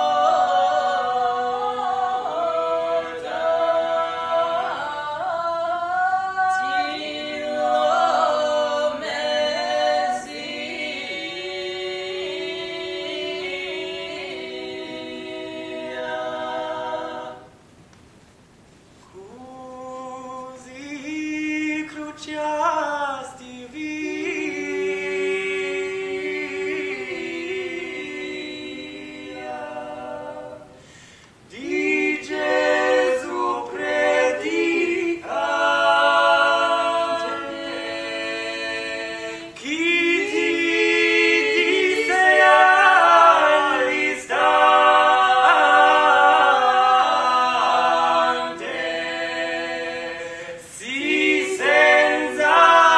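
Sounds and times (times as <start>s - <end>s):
a cappella ensemble singing: 0.0s - 17.9s, 18.8s - 52.9s.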